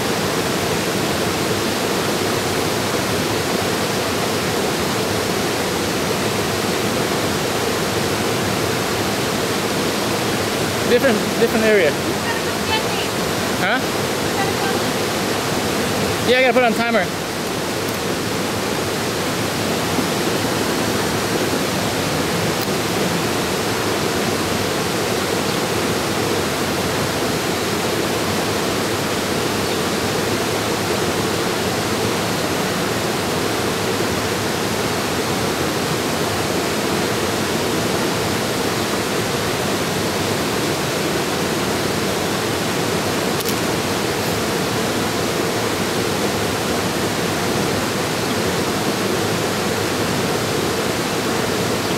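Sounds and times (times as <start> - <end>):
water rushing over rocks: 0.0 - 51.9.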